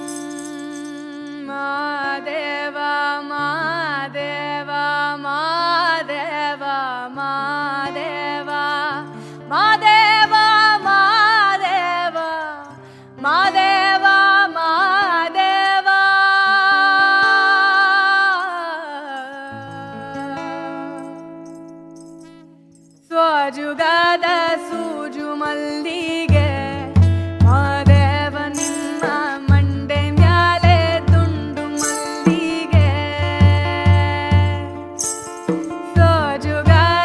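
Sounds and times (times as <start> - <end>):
person singing folk melody: 0.0 - 37.0.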